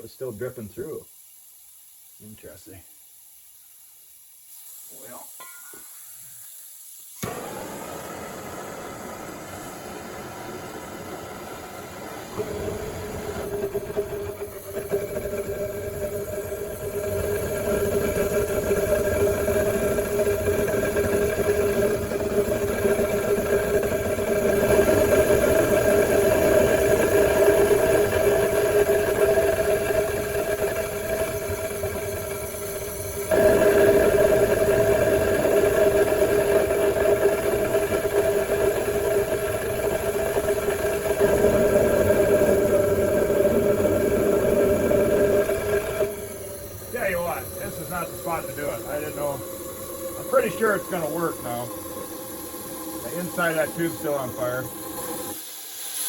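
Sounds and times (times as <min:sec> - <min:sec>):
air blower humming: 0:07.2 - 0:55.4.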